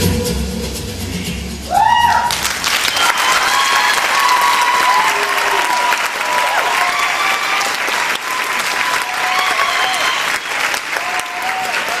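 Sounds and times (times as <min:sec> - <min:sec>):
voices whooping and cheering: 0:01.7 - 0:12.0
audience clapping: 0:02.1 - 0:12.0.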